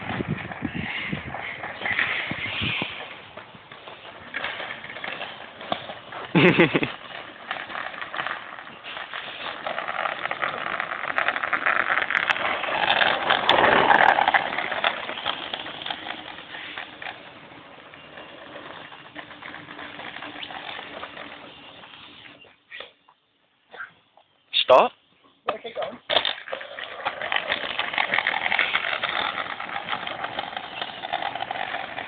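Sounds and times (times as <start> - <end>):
skateboard wheels rolling on pavement: 0.0 - 32.0.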